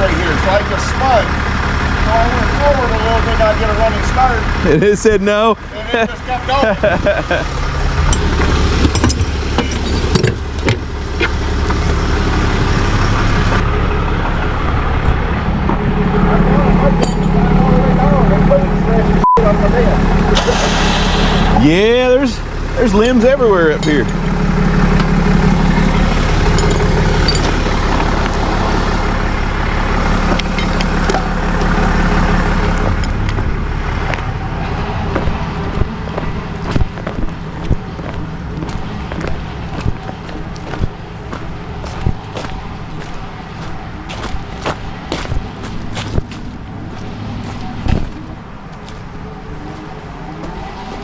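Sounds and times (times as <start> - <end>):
vehicle engine idling: 0.0 - 51.0.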